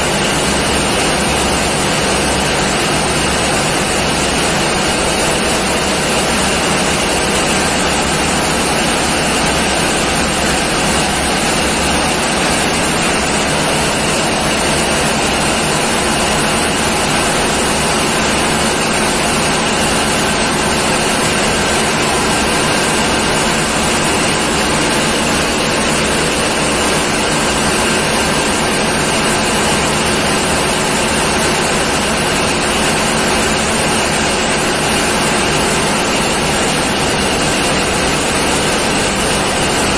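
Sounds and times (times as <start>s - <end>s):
diesel engine room din: 0.0s - 39.9s.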